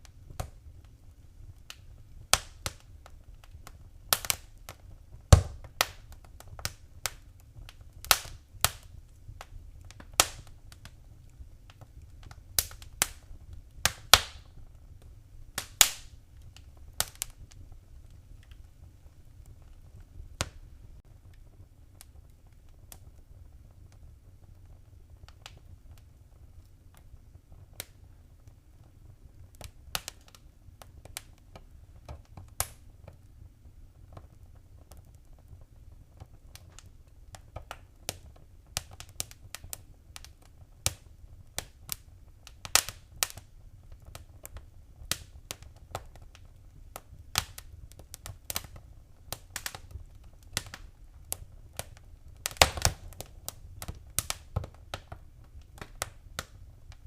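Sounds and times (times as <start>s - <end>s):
low rumble of fire: 0.0s - 57.0s
wood fire crackling: 0.0s - 57.0s.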